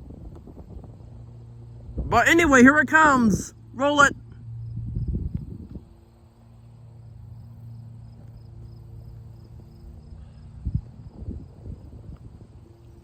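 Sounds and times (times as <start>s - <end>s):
steady low hum: 0.0s - 13.0s
crickets chirping: 0.9s - 13.0s.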